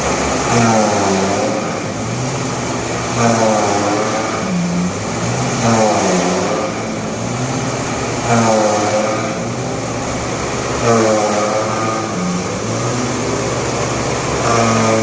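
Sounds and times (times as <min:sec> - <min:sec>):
machine shredding straw: 0:00.0 - 0:15.0.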